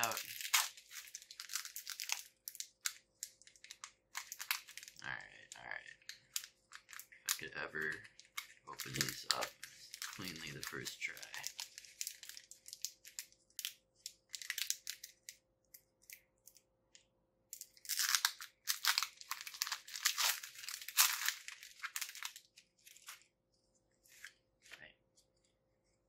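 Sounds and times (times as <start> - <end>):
foil wrapper crinkling and tearing: 0.0 - 15.4, 17.6 - 23.3.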